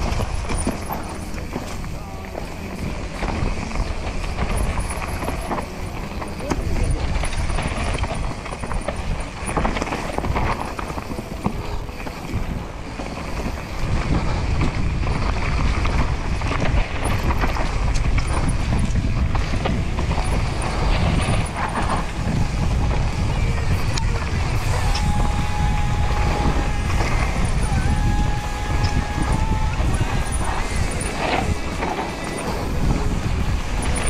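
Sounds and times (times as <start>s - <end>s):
bike chain and frame rattling: 0.0s - 34.0s
bike tyres rumbling over dirt: 0.0s - 34.0s.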